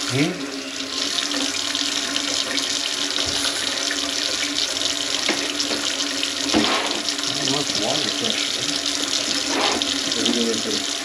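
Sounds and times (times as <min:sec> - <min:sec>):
water running: 0:00.0 - 0:11.0.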